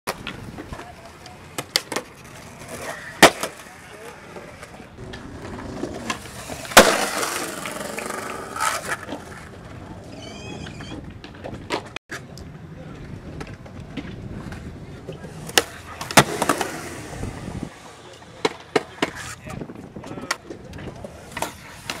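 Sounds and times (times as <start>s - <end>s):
skateboard clacking on ground: 0.1s - 22.0s
skateboard wheels rolling on concrete: 0.1s - 22.0s.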